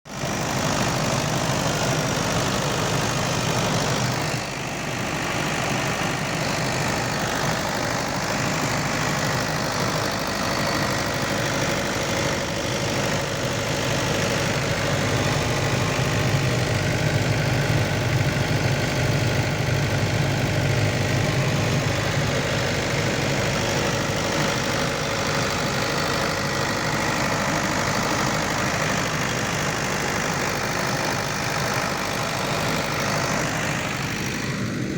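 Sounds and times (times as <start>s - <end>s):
generator engine running: 0.0s - 34.9s.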